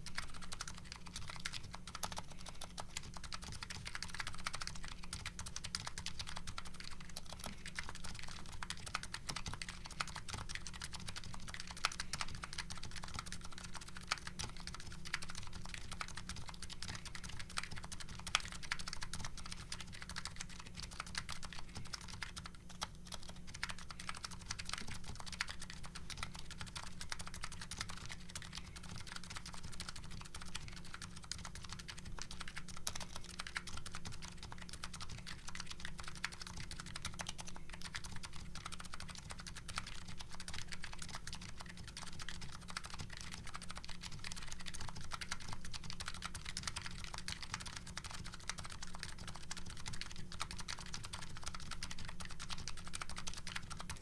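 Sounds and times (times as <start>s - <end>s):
fast typing on keyboard: 0.0s - 54.0s.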